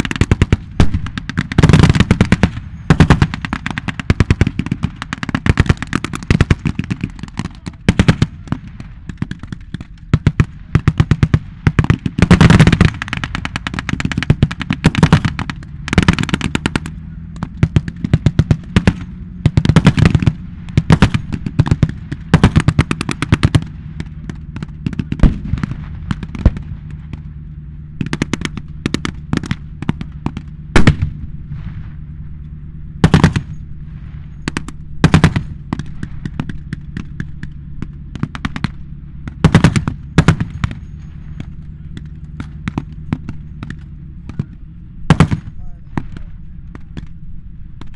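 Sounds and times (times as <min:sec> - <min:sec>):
blank gunfire bursts: 0:00.0 - 0:27.4, 0:28.0 - 0:31.3, 0:33.0 - 0:47.2
steady low hum: 0:00.0 - 0:47.9.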